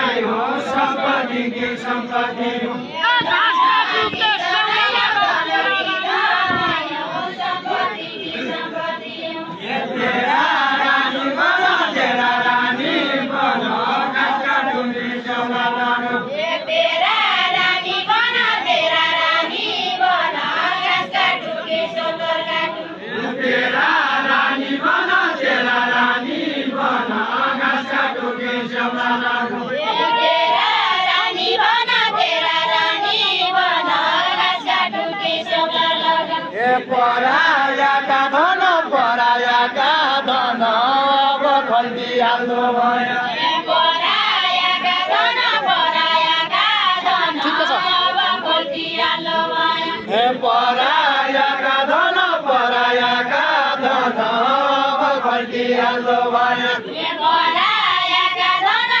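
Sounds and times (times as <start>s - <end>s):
men singing folk song together: 0.0s - 59.0s.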